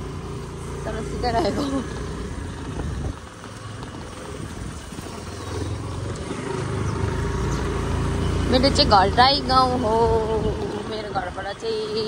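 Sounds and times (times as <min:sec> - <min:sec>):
vehicle rumbling with road noise: 0:00.0 - 0:12.0.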